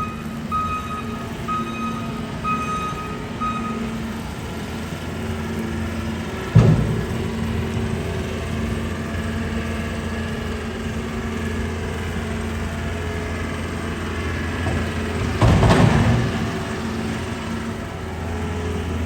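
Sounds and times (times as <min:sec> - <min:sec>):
street traffic: 0:00.0 - 0:19.0
vehicle engine idling: 0:00.0 - 0:19.0.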